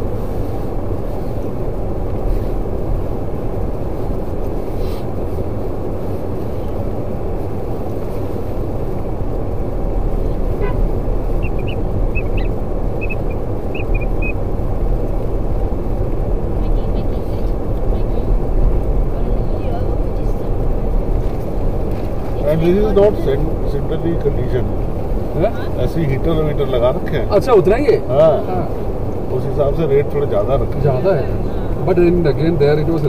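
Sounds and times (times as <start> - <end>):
car driving on dirt road: 0.0 - 33.0.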